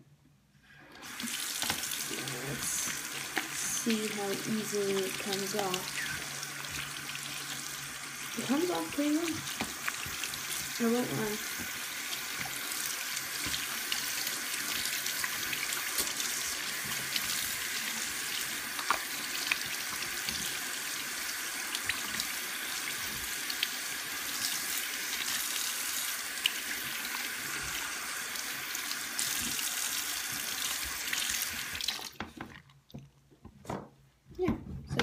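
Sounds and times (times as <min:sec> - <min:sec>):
tap water running into sink: 0:00.9 - 0:33.1.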